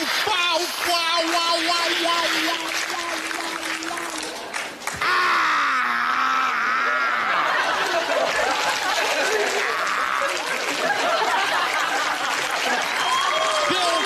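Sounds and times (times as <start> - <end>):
audience noise: 0.0 - 14.0.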